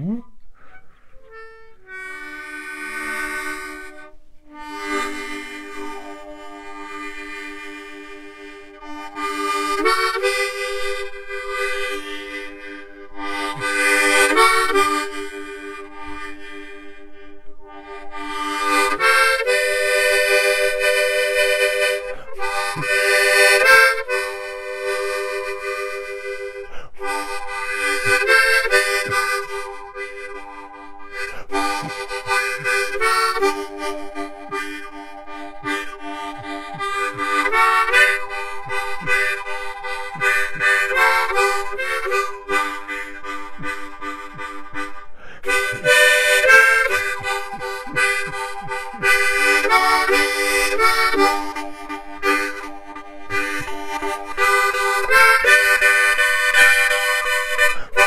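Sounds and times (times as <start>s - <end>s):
harmonica playing chords: 0.0s - 58.0s.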